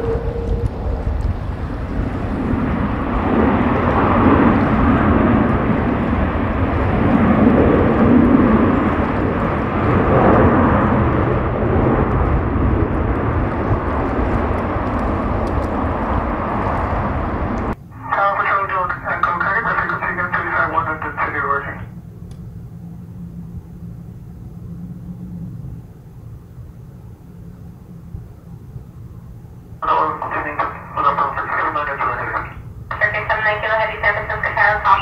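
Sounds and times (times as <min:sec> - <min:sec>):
jet airliner low rumble: 0:00.0 - 0:35.0.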